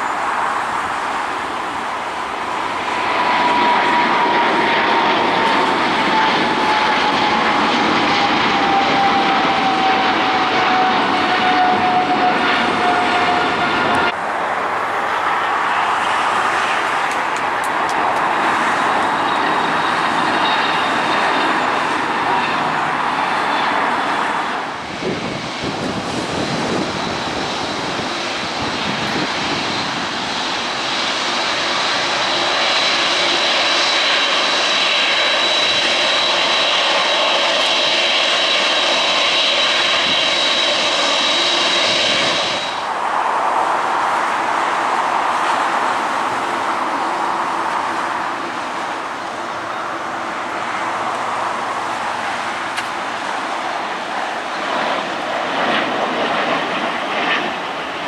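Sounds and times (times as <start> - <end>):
jet engines high whine: 0.0 - 58.0.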